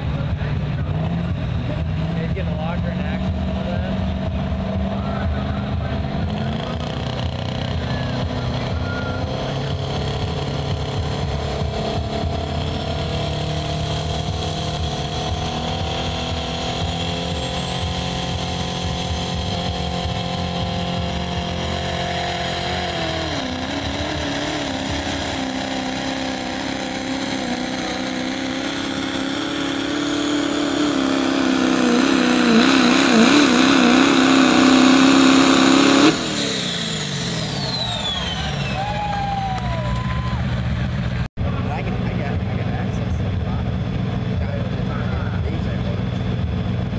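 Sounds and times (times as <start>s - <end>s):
diesel truck engine full throttle: 0.0s - 46.9s.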